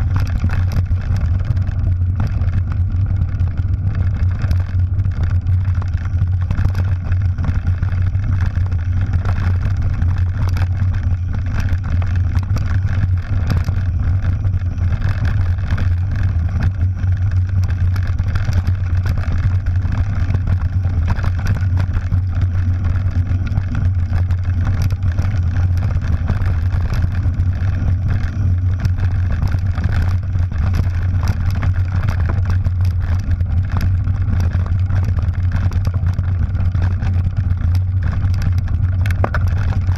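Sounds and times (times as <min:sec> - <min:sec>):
stones clicking and bike rattling: 0:00.0 - 0:39.9
tyres on dirt: 0:00.0 - 0:39.9
wind rumble on microphone: 0:00.0 - 0:39.9.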